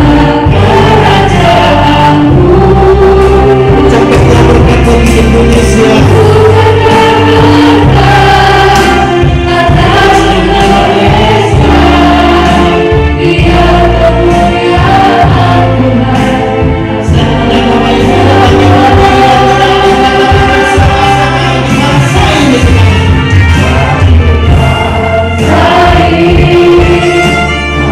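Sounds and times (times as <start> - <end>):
instrumental accompaniment with bass: 0.0 - 27.9
voices singing together: 0.0 - 27.9.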